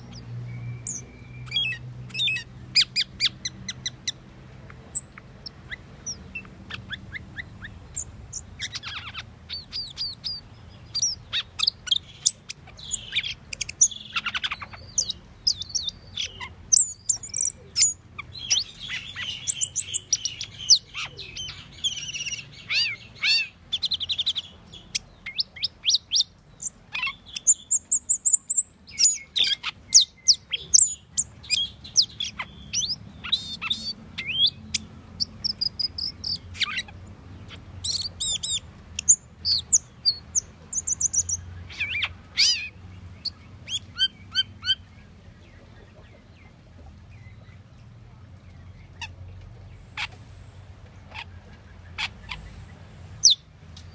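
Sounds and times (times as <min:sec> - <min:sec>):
starling singing chirps and whistles: 0:00.0 - 0:04.2, 0:04.9 - 0:44.9, 0:51.9 - 0:53.5.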